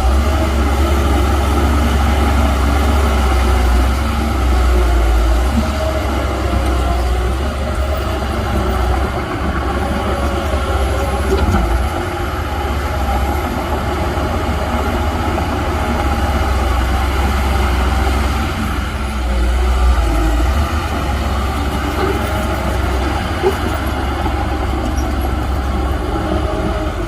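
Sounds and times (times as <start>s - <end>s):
heavy diesel machinery engine drone: 0.0s - 27.0s.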